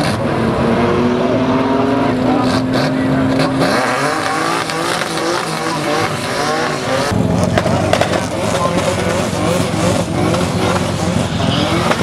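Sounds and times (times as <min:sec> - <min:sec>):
racing car engines accelerating: 0:00.0 - 0:12.0.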